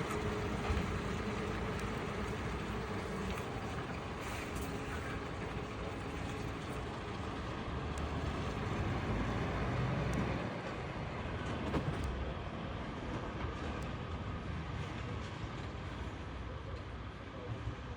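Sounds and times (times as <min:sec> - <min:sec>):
heavy vehicle rumbling: 0:00.0 - 0:17.7.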